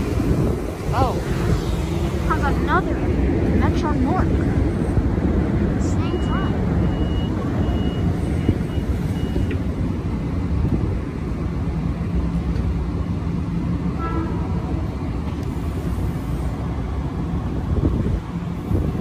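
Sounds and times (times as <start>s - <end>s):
train approaching rumble: 0.0s - 19.0s.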